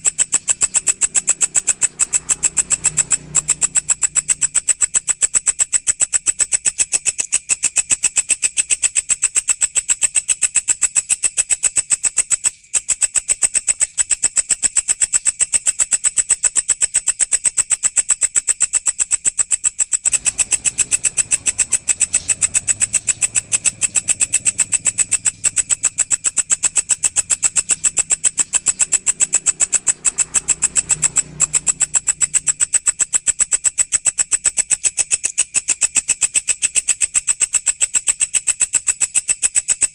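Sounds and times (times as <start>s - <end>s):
insect rapid pulsing trill: 0.0s - 39.9s.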